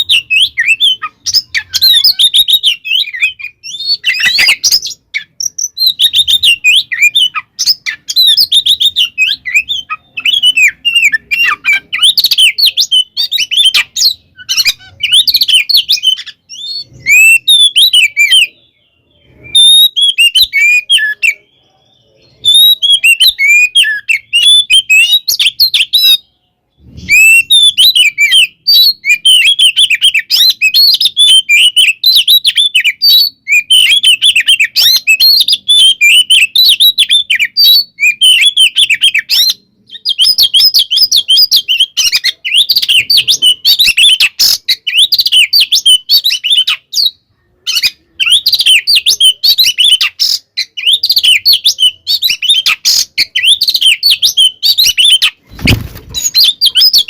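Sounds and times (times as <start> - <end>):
bird singing chirps and whistles: 0.0 - 57.0.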